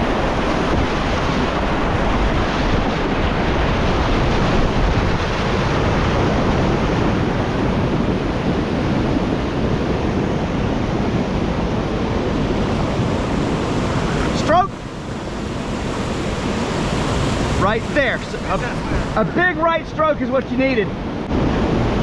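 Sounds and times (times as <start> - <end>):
rushing whitewater: 0.0 - 22.0.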